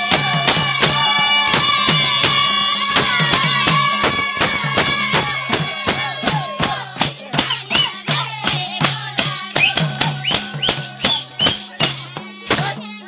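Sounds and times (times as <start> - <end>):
drum strokes: 0.0 - 12.9
jingling rattling percussion: 0.0 - 13.0.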